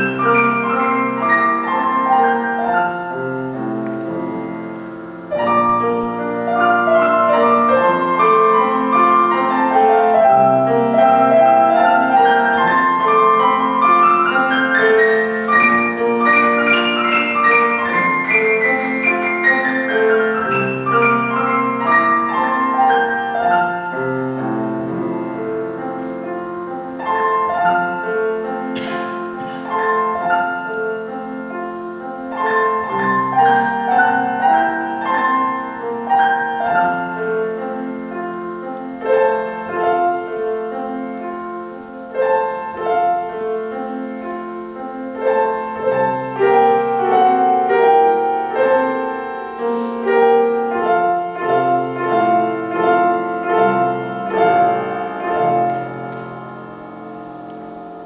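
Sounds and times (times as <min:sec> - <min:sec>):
solo piano: 0:00.0 - 0:58.0.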